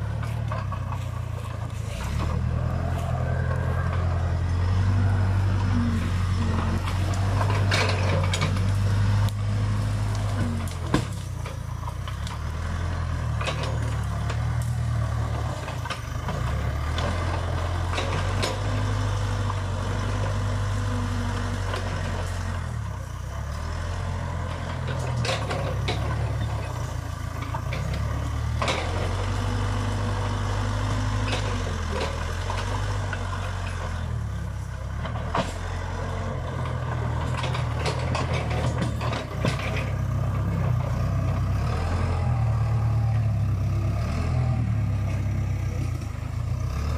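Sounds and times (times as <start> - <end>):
diesel engine under load: 0.0 - 46.9.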